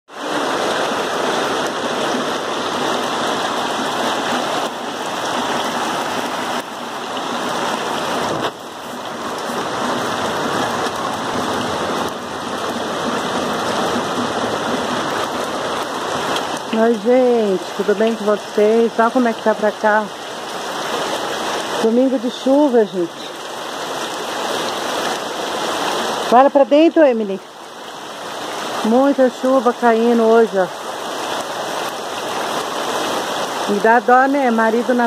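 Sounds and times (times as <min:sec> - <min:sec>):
heavy rain on leaves: 0:00.1 - 0:35.0.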